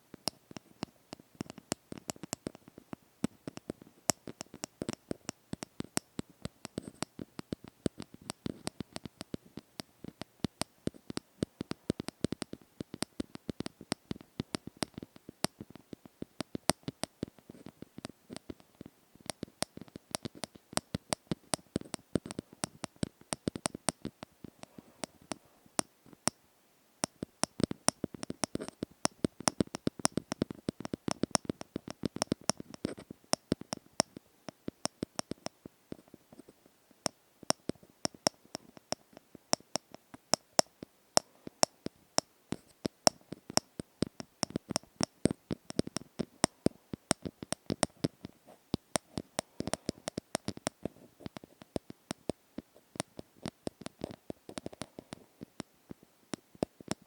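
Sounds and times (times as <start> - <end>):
crisp tapping and clicks: 0.0 - 26.4, 27.0 - 57.0.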